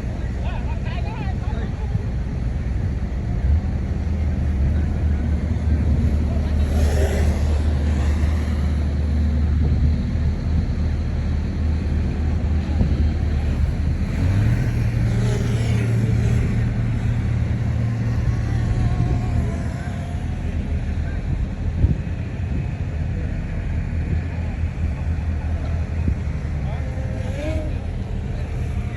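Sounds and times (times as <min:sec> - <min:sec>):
diesel engine running under load: 0:00.0 - 0:28.9.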